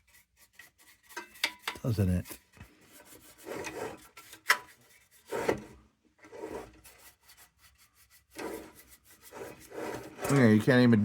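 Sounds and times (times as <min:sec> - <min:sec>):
bristle brush swishing on tin: 0:00.0 - 0:05.4, 0:06.6 - 0:10.6.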